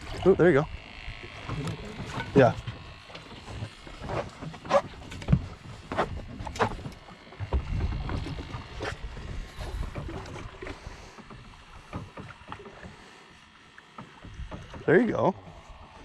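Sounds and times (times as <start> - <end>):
water slapping against boat hull: 1.3 - 16.0.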